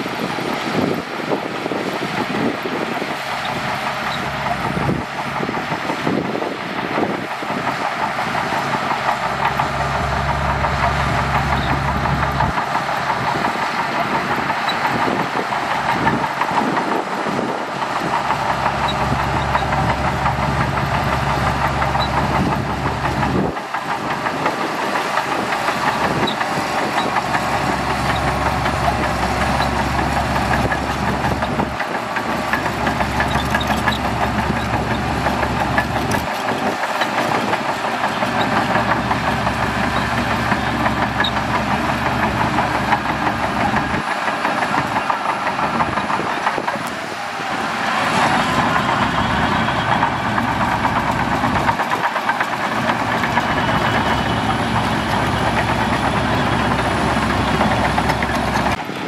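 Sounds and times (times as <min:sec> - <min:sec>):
bulldozer diesel engine clattering: 0:00.0 - 0:59.0.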